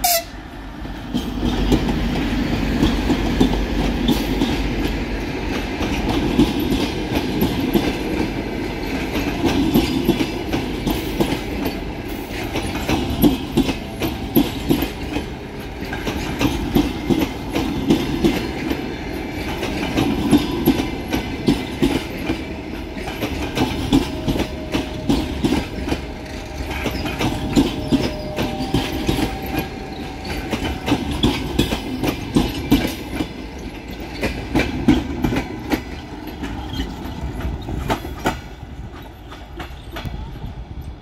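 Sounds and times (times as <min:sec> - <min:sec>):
train wheels clacking over rail joints: 0:00.8 - 0:41.0.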